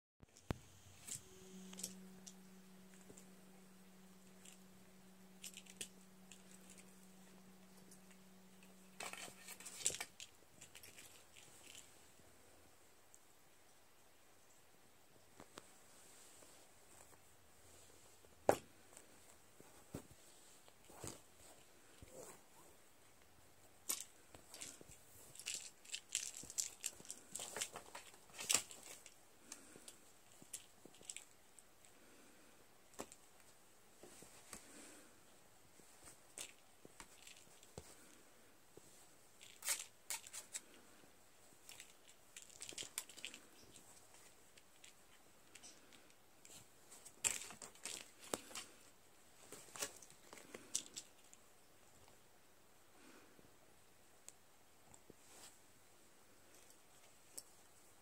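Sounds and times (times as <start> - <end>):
cat toy crinkling and rustling: 0.3 - 12.3, 15.3 - 52.2, 54.8 - 55.7, 56.3 - 58.0.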